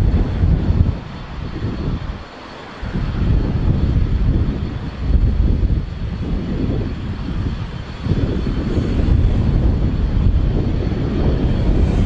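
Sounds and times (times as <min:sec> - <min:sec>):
jet engines rumbling and whining: 0:00.0 - 0:12.0.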